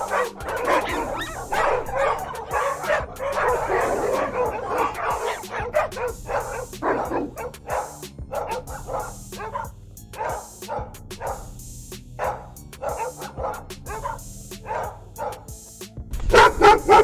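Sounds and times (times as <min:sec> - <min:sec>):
dogs growling and snarling: 0:00.0 - 0:11.6, 0:12.2 - 0:15.6
dogs barking: 0:00.0 - 0:17.0.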